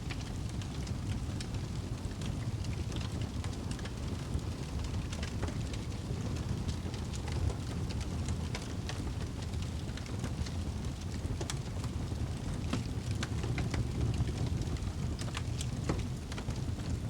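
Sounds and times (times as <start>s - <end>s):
burning wood crackles and pops: 0.0s - 17.0s.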